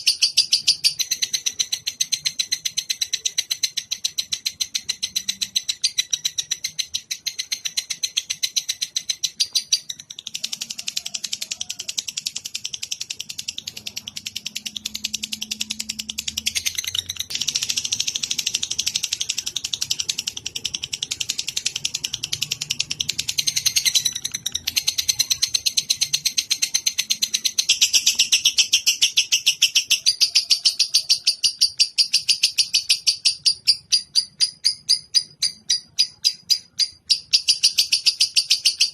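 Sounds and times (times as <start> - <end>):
songbird rapid high chattering: 0.0 - 38.9.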